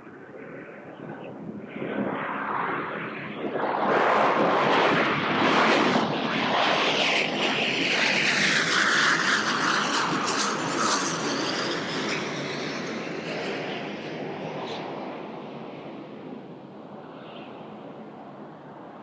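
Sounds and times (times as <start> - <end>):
jet airliner passing: 0.0 - 19.0.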